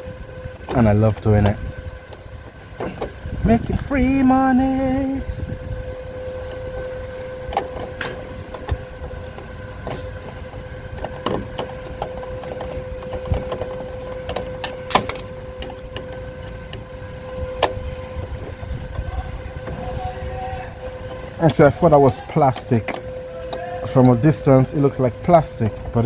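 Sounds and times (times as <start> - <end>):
steady humming tone: 0.0 - 26.0.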